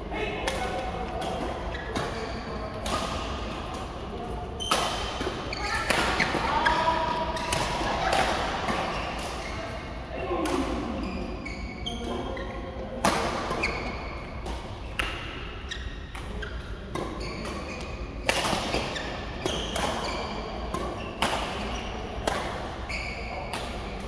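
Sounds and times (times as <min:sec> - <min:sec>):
rackets hitting shuttlecock: 0:00.4 - 0:24.0.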